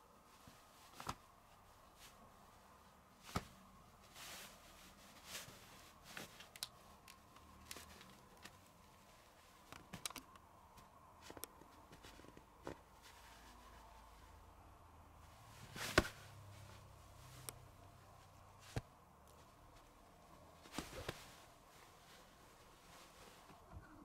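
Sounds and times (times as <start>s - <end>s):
fabric rustling: 0.0s - 24.0s.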